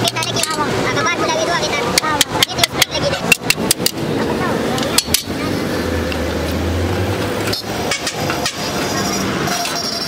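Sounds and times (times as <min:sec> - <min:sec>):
traffic noise: 0:00.0 - 0:10.0
vehicle engine drone: 0:00.0 - 0:10.0.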